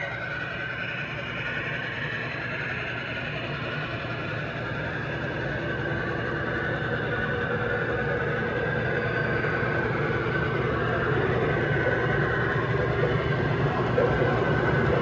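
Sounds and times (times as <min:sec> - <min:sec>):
faint motor whine: 0:00.0 - 0:15.0
model train rolling rumble: 0:00.0 - 0:15.0.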